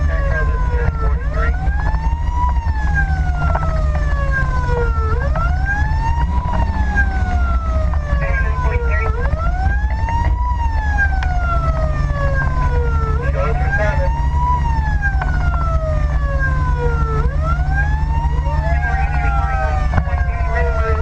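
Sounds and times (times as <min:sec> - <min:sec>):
fire engine siren wailing: 0:00.0 - 0:21.0
truck engine rumble and road noise: 0:00.0 - 0:21.0.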